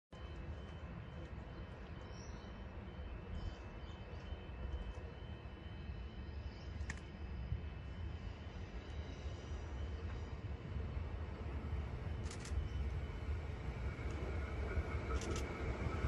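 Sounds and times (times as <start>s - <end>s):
low outdoor rumble: 0.1s - 16.0s.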